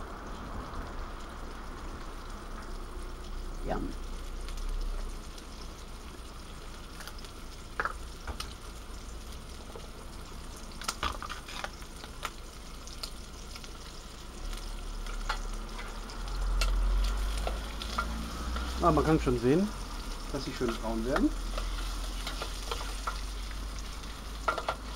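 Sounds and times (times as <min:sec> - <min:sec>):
sausage sizzling in a pan: 0:00.0 - 0:24.9.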